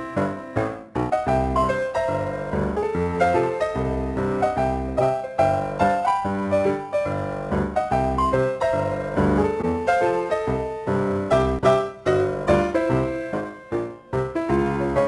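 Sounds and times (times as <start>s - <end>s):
piano repeated notes: 0.0s - 15.0s.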